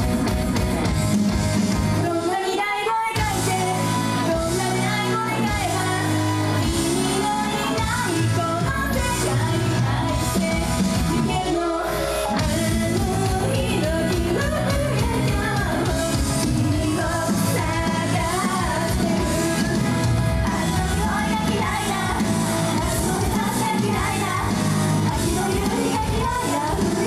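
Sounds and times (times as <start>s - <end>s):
pop backing music with beat: 0.0s - 27.0s
female group singing pop: 1.9s - 27.0s.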